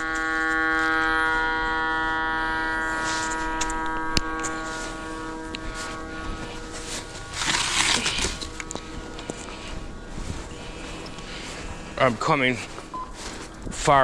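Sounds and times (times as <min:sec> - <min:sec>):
buzzy electronic tone: 0:00.0 - 0:14.0
rustling: 0:00.0 - 0:14.0.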